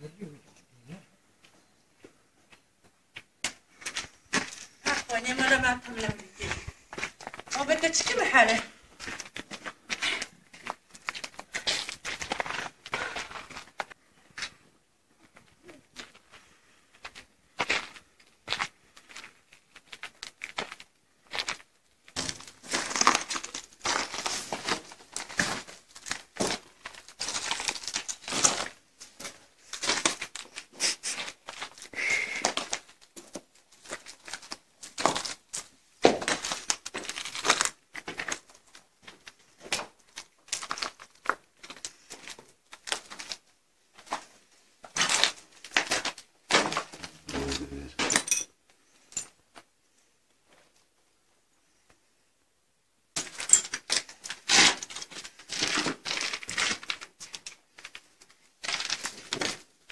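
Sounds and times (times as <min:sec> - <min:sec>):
footsteps crunching over rubble: 0:01.3 - 0:51.1, 0:53.2 - 0:59.9.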